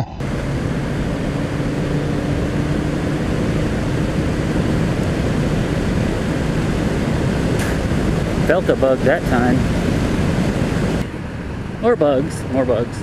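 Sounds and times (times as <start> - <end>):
wind noise on microphone: 0.0 - 11.8
motorcycle engine running: 0.0 - 12.1.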